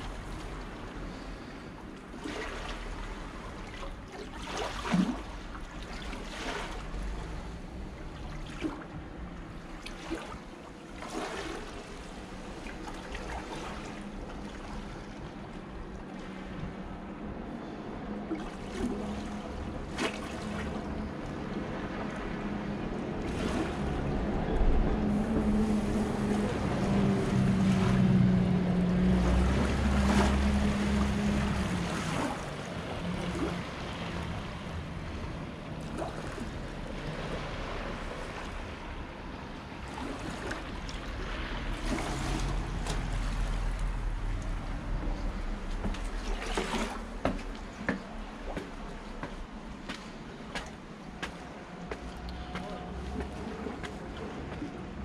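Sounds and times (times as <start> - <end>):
low engine hum: 0.0 - 55.0
sea waves washing: 0.0 - 55.0
wind: 0.0 - 55.0.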